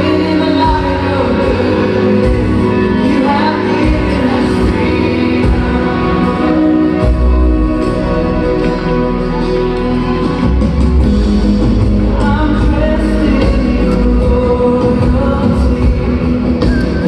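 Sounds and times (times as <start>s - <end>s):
song with singing and accompaniment: 0.0s - 17.0s.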